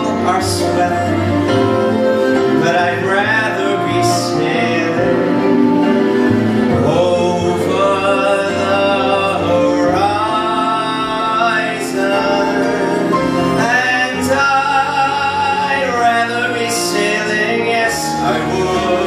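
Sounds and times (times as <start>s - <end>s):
man singing: 0.0s - 5.8s, 6.6s - 19.0s
instrumental accompaniment: 0.0s - 19.0s.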